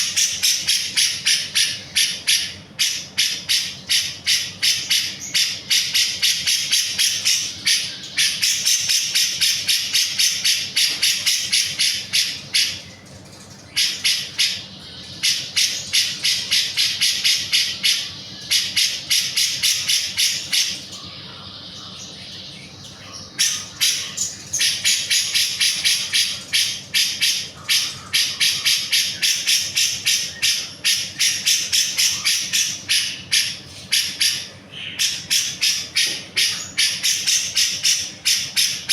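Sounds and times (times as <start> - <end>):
bird singing sharp repeated notes: 0.0 - 38.9.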